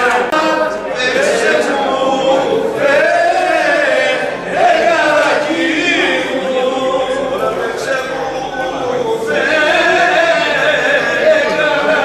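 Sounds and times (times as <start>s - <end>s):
men singing unaccompanied: 0.0s - 12.0s.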